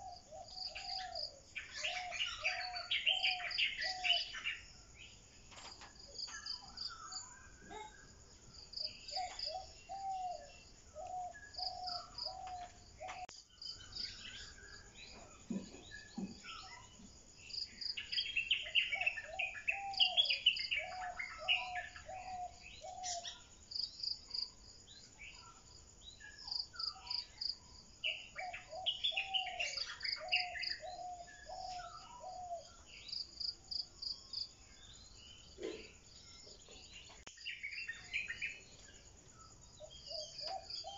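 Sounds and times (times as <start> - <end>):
birds singing and calling: 0.0 - 40.9
insects chirping: 0.0 - 40.9.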